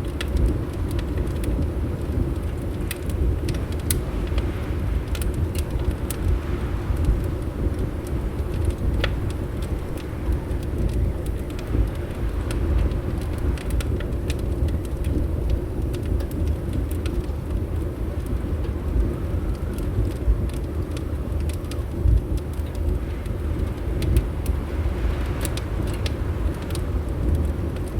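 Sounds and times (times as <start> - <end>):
wind rumbling against windows: 0.0 - 27.9
wood fire crackling and popping: 0.0 - 27.9.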